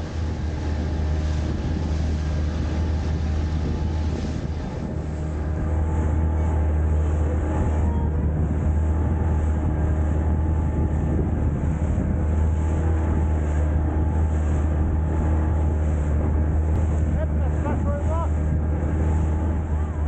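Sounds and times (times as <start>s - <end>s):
outboard motor running: 0.0s - 20.0s
water rushing past hull: 0.0s - 20.0s.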